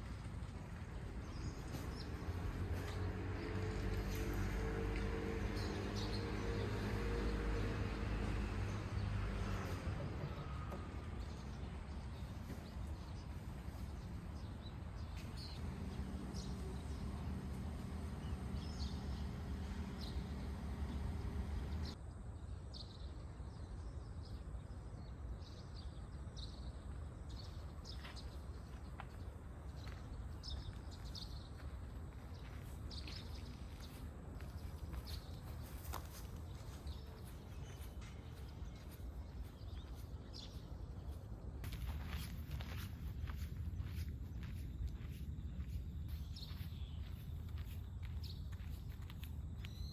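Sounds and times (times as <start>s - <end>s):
birds chirping: 0.0s - 49.9s
steady low background hum: 8.2s - 49.9s.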